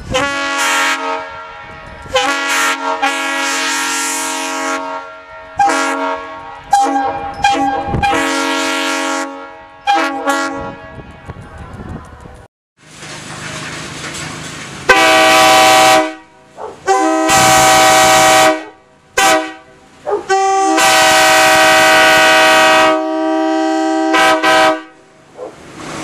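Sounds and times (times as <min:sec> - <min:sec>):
locomotive air horn blasts: 0:00.0 - 0:11.4, 0:14.9 - 0:25.2.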